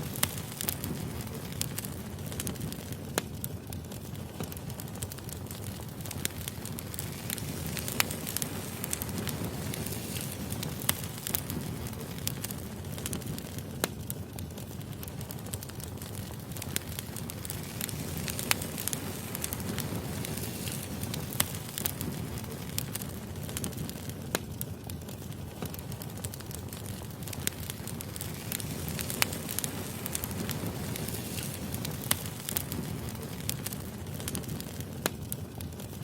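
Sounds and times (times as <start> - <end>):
fire crackling and popping: 0.0 - 36.0
firewood burning: 0.0 - 36.0.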